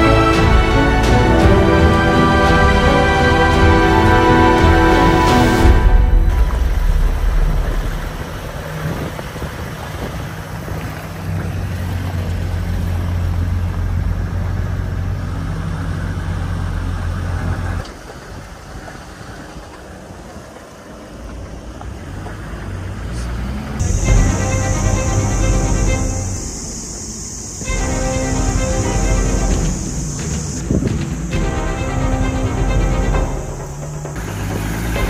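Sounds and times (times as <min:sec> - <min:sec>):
car engine running: 0:00.0 - 0:35.0
road noise: 0:00.0 - 0:35.0.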